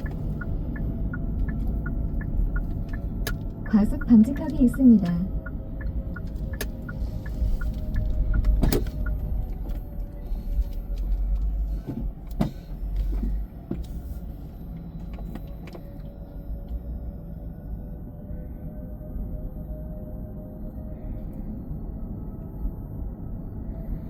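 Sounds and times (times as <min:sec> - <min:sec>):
car road rumble: 0:00.0 - 0:19.6.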